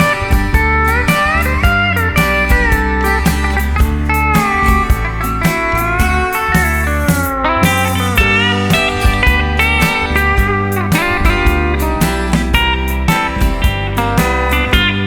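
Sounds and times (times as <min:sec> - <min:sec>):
bass: 0:00.0 - 0:15.0
steady drum beat: 0:00.0 - 0:15.0
steel guitar lead with sliding notes: 0:00.0 - 0:15.0.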